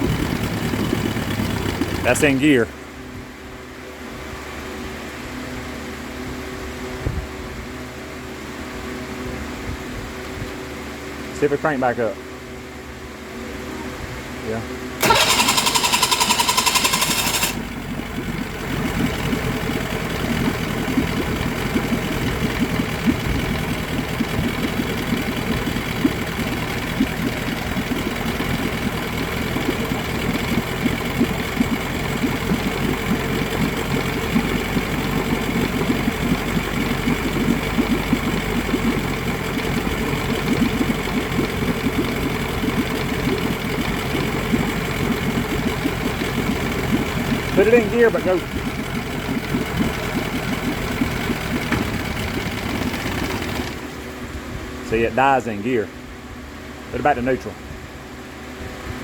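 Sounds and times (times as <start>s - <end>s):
outboard motor idling: 0.0s - 59.0s.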